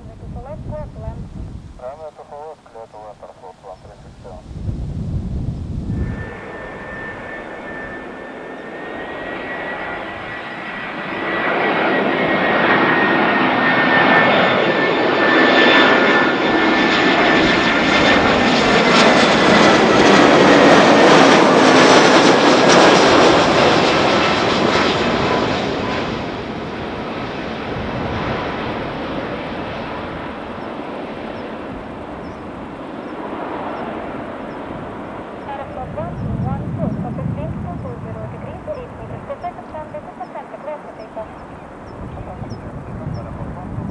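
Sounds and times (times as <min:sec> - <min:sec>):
jet airliner passing: 0:00.0 - 0:43.9.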